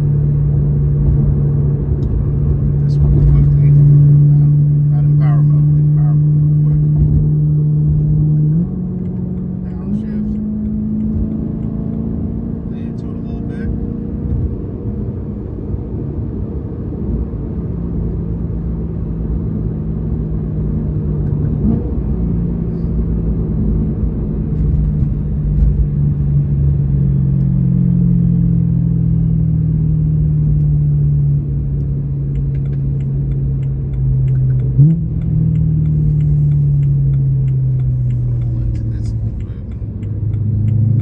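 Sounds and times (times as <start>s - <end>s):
deep car engine rumble: 0.0s - 41.0s.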